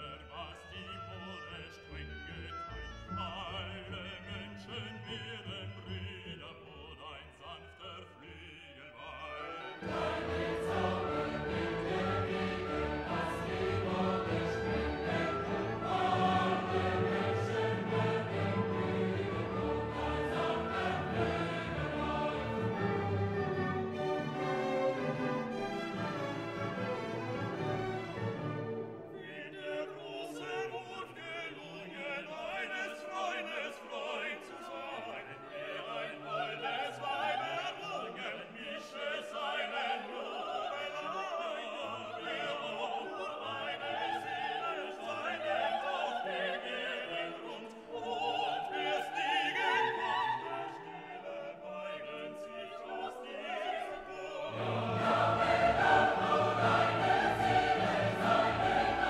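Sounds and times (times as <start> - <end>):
operatic singing with choir and orchestra: 0.0 - 59.0.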